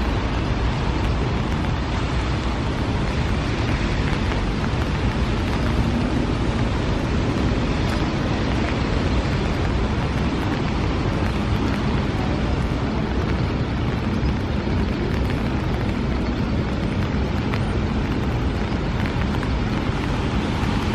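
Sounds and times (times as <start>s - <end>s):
street traffic rumble: 0.0s - 20.9s
wind: 0.0s - 20.9s.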